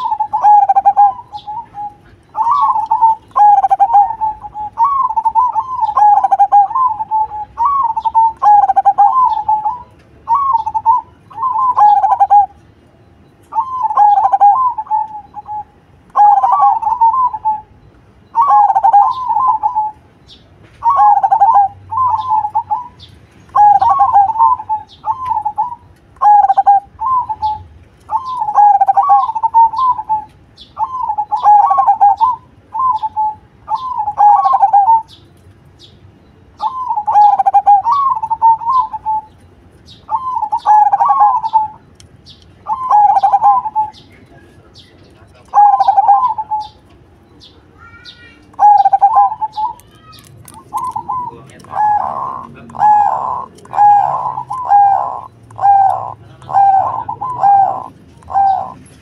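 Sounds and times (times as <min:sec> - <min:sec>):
dove cooing: 0:00.0 - 0:12.6, 0:13.5 - 0:35.2, 0:36.6 - 0:41.9, 0:42.6 - 0:59.0.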